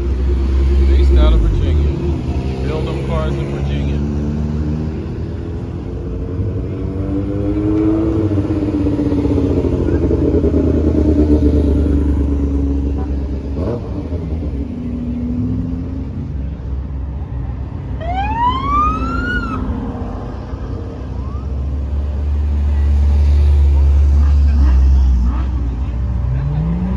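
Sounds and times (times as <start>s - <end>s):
car engines revving: 0.0s - 26.9s.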